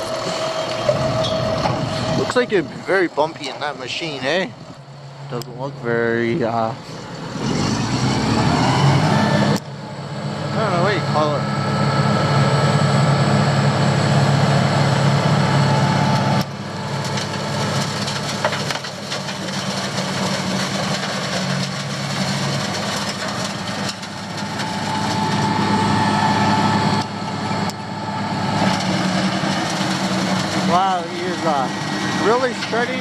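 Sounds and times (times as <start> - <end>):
cutting drum grinding asphalt: 0.0 - 33.0
milling machine engine droning: 0.0 - 33.0.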